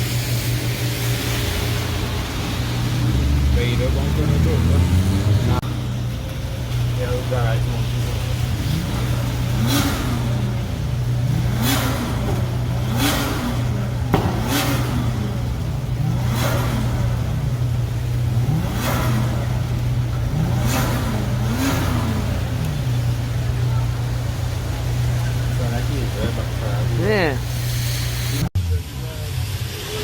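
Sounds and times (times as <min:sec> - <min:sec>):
car engine revving: 0:00.0 - 0:28.5
exhaust rasp: 0:00.0 - 0:28.6.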